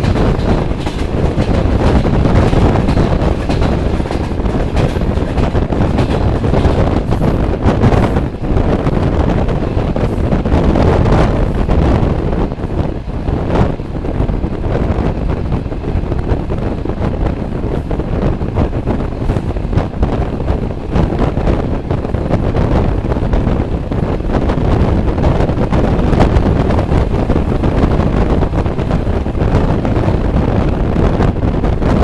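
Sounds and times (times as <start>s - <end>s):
train wheels on rails: 0.0s - 32.0s
wind buffeting microphone: 0.0s - 32.0s.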